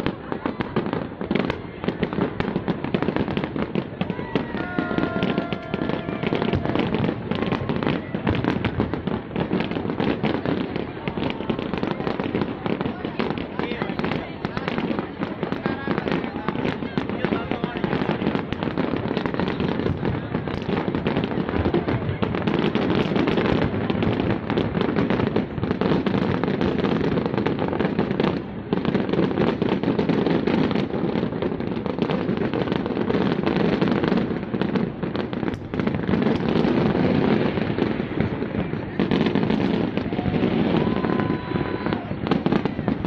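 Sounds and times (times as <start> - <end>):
fireworks bangs and crackles: 0.0 - 43.0.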